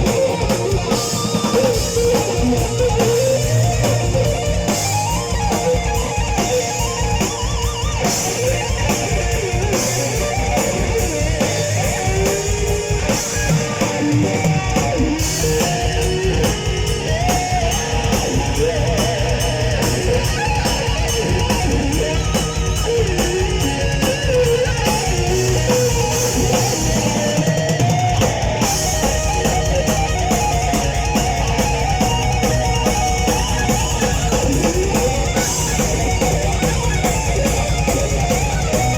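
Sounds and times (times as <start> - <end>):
heavy metal band playing: 0.0 - 38.9
lead electric guitar solo: 0.0 - 38.9.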